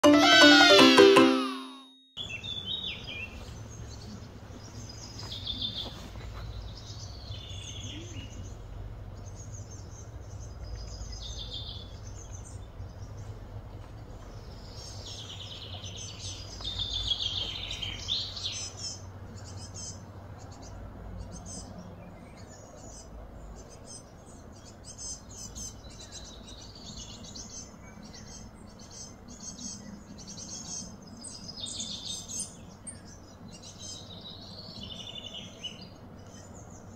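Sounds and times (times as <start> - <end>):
small birds chirping: 2.2 - 36.9.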